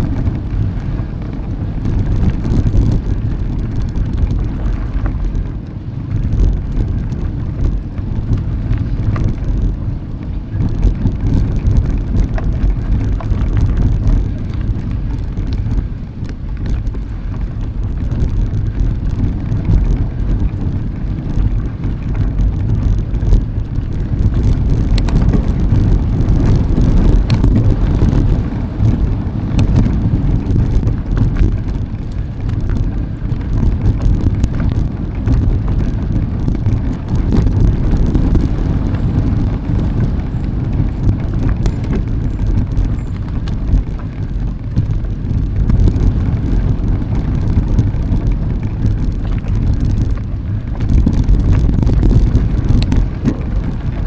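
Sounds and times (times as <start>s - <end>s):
bike riding rumble: 0.0s - 54.0s
small clicks and rattles: 0.0s - 54.0s
wind buffeting microphone: 0.0s - 54.0s.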